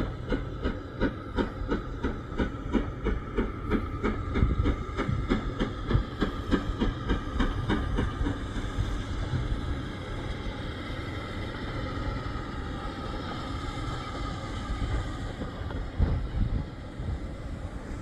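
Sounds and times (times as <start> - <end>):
steam locomotive chuffing: 0.0 - 18.0
train rumbling: 0.0 - 18.0.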